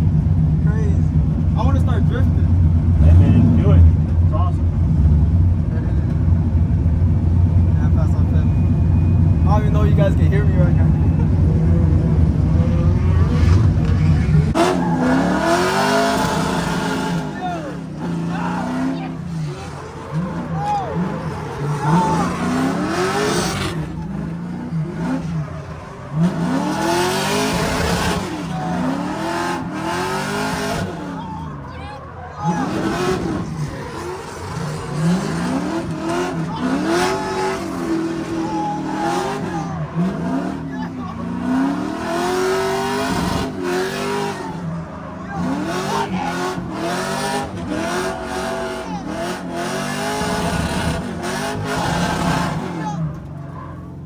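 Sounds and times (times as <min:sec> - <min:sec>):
car engine revving: 0:00.0 - 0:54.0
tires squealing: 0:00.0 - 0:54.0.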